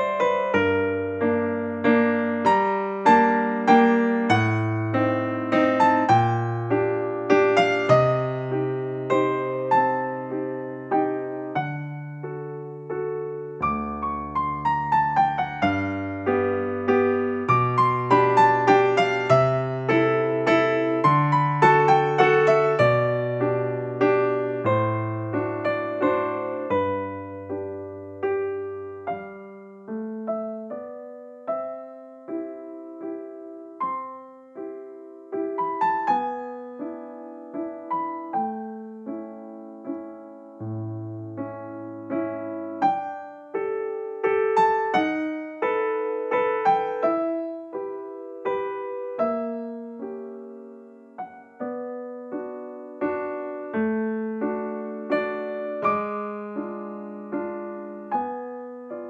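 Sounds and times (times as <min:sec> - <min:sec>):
gentle solo piano: 0:00.0 - 0:59.0.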